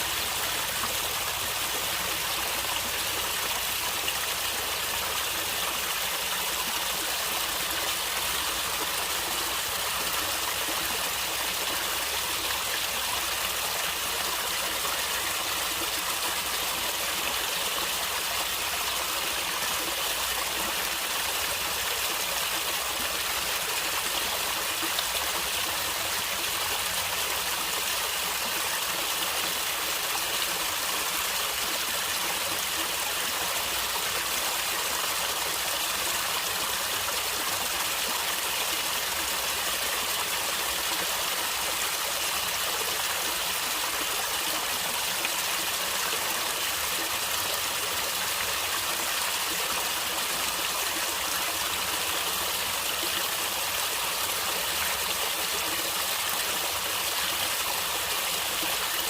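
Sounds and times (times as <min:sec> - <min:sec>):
stream of water gurgling: 0:00.0 - 0:59.0.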